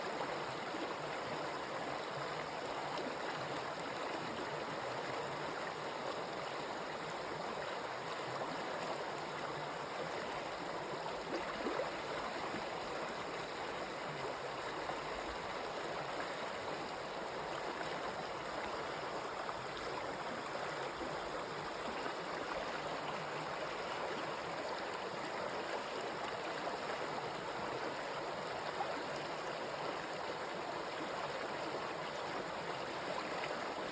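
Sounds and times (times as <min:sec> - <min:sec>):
stream of running water: 0:00.0 - 0:33.9.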